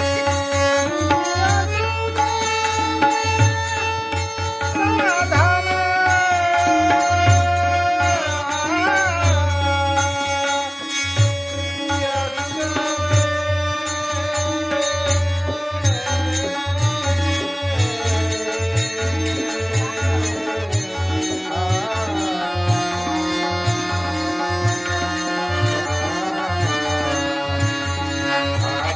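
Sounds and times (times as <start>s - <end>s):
person singing devotional melody: 0.0s - 28.9s.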